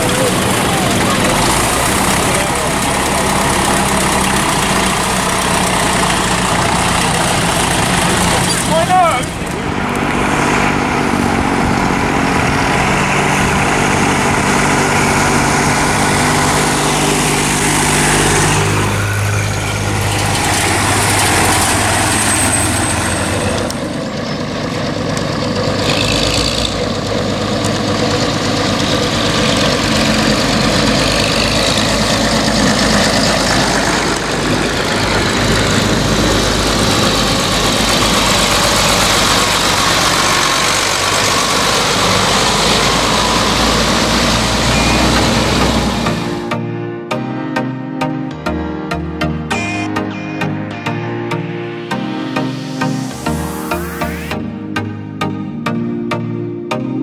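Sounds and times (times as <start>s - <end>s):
tractor engines passing: 0.0s - 46.7s, 48.8s - 54.4s.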